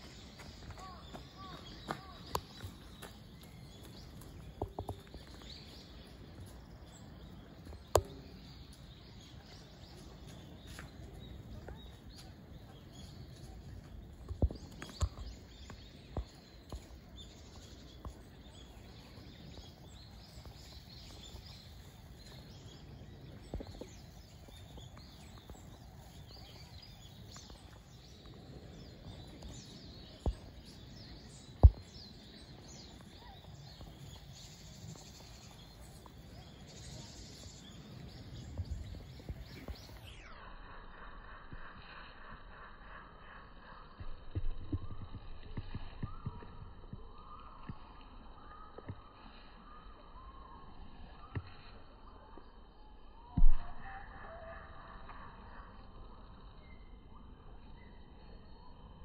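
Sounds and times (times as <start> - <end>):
faint outdoor ambience: 0.0 - 59.0.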